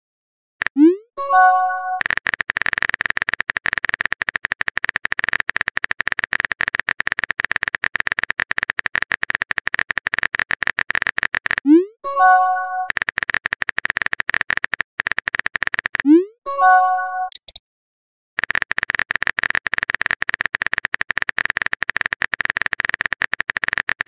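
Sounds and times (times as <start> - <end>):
rapid typing clicks: 0.6 - 11.8, 12.4 - 16.1, 18.4 - 24.0.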